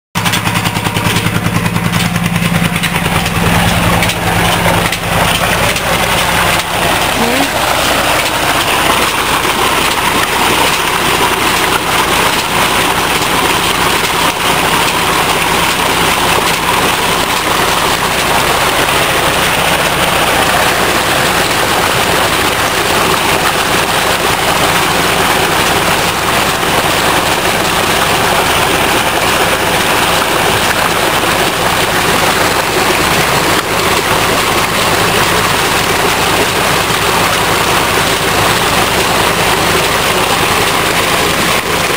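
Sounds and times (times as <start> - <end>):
low hum: 0.2 - 41.9
water gushing into a tank: 0.2 - 41.9.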